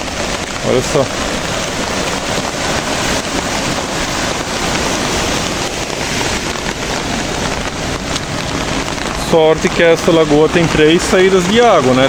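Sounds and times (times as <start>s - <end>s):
floodwater rushing: 0.0s - 12.0s
rain falling: 0.0s - 12.0s.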